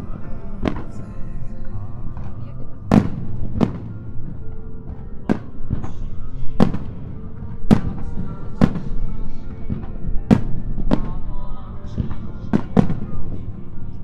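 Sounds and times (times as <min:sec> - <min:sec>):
firework shells bursting: 0:00.0 - 0:13.8
music: 0:00.0 - 0:14.0.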